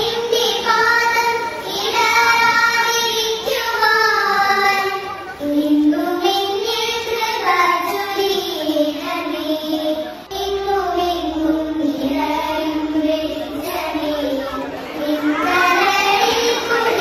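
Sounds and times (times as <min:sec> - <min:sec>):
girls singing into a microphone: 0:00.0 - 0:17.0.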